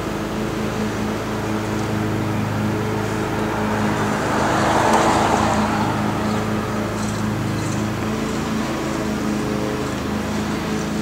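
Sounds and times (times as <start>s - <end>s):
rushing road noise: 0.0s - 11.0s
vehicle passing: 0.6s - 11.0s.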